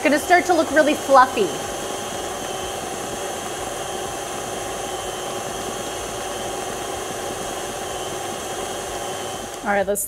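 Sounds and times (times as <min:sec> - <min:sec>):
stand mixer motor whine: 0:00.0 - 0:10.0.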